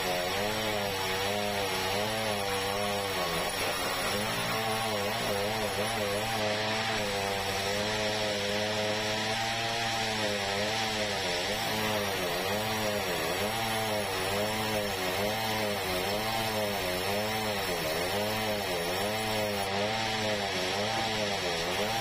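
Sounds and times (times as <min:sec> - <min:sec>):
sawmill engine hum: 0:00.0 - 0:22.0.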